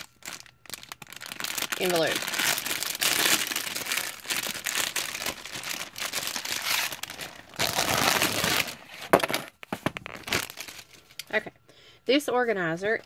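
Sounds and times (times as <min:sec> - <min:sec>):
plastic envelope crinkling: 0:00.0 - 0:11.4.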